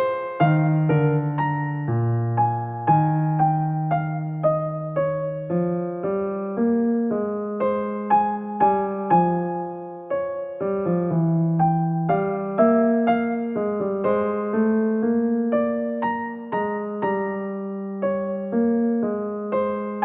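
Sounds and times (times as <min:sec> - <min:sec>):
soft piano melody: 0:00.0 - 0:20.0.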